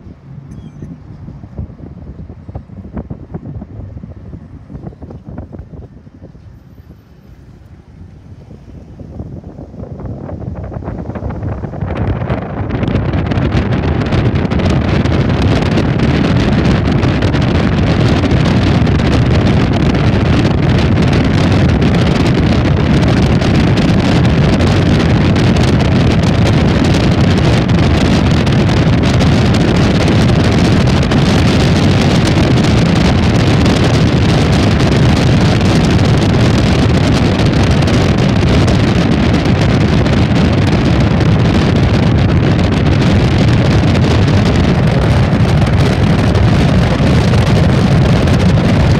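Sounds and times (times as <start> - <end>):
car road noise from inside: 0.0 - 48.9
wind buffeting microphone: 0.0 - 48.9.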